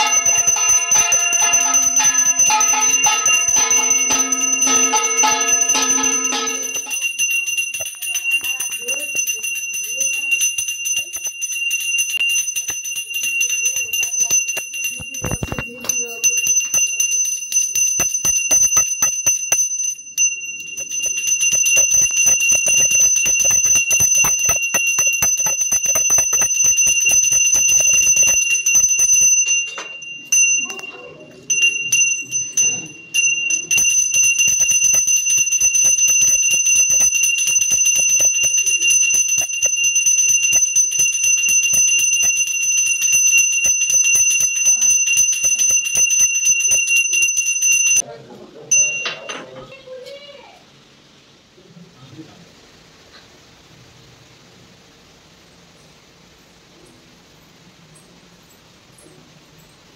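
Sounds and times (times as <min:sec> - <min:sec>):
hand bell ringing rapidly: 0:00.0 - 0:48.0.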